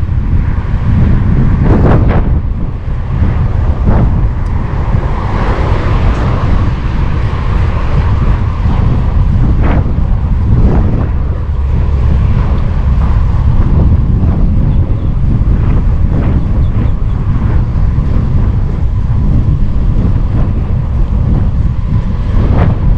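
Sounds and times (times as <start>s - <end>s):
road traffic passing: 0.0s - 22.9s
wind rushing over microphone: 0.0s - 22.9s.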